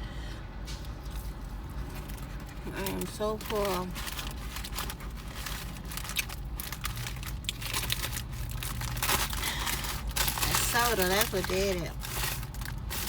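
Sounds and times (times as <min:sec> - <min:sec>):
paper wrapper crinkling: 0:01.0 - 0:13.0.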